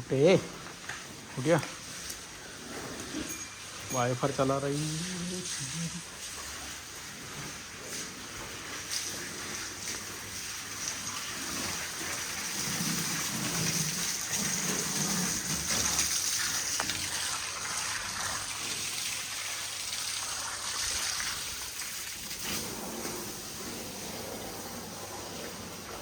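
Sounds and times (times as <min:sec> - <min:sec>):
water gushing: 0:00.0 - 0:26.0.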